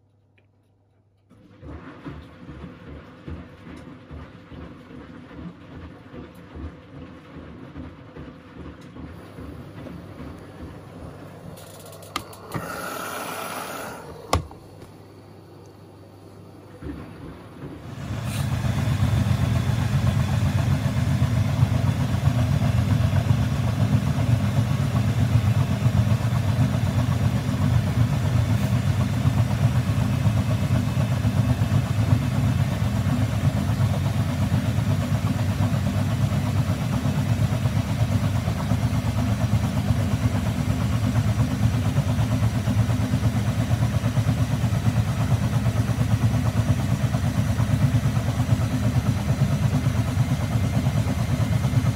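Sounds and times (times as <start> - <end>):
washing machine spinning: 1.3 - 51.9.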